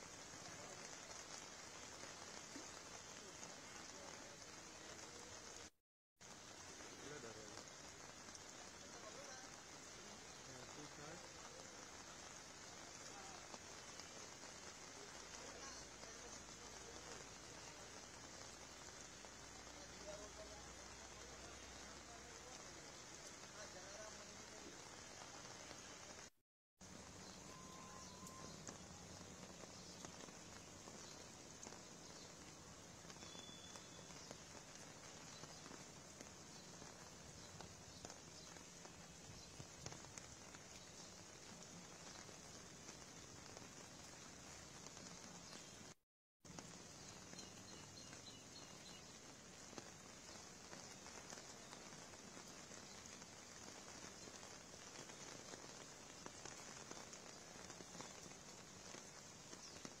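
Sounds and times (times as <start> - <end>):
light crackles: 0.0 - 60.0.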